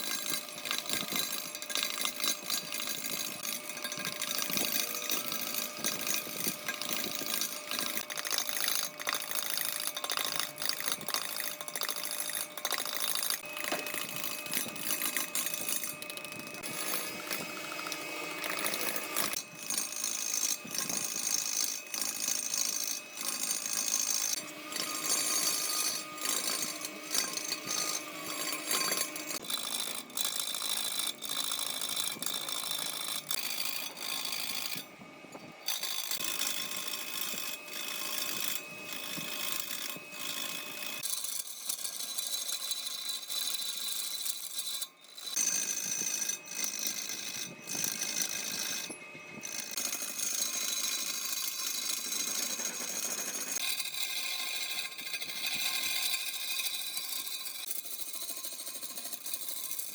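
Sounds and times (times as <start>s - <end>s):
woodworking machines whining: 0.0s - 59.9s.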